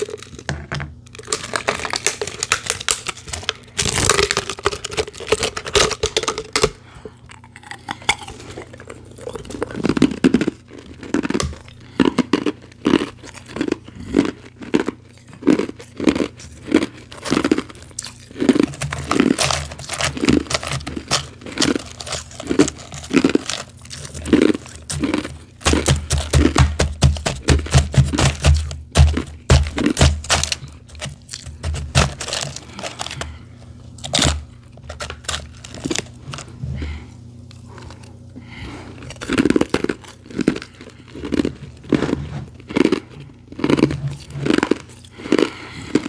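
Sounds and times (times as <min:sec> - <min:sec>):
crunchy chewing of ice: 0:00.0 - 0:46.0.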